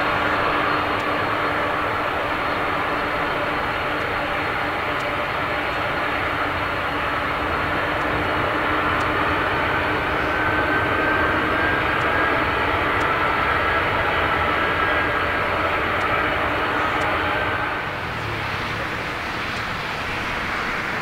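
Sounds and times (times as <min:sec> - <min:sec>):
faint high whine: 0:00.0 - 0:21.0
jet engine rumble: 0:00.0 - 0:21.0.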